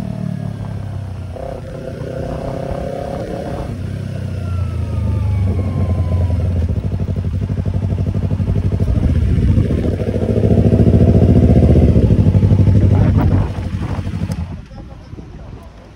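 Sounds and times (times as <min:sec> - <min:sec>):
motorcycle exhaust pulsing: 0:00.0 - 0:15.8.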